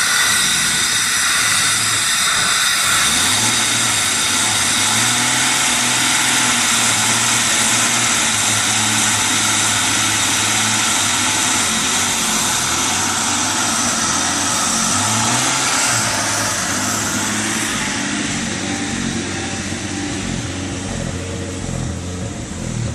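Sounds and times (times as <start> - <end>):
strong even hiss: 0.0 - 22.6
car engine idling: 0.0 - 22.9.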